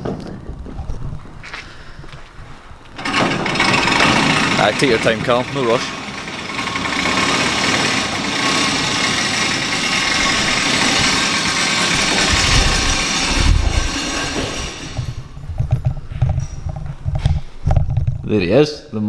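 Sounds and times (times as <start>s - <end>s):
metal roller shutter rattling: 2.5s - 18.6s.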